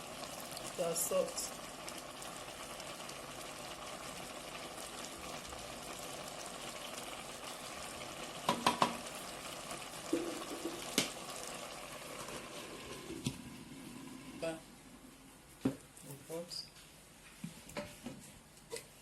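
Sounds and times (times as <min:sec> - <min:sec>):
pot boiling: 0:00.0 - 0:16.4.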